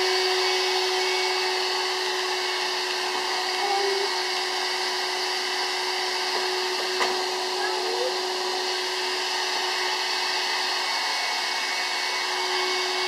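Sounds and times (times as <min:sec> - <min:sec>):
vacuum cleaner motor humming: 0:00.0 - 0:13.0.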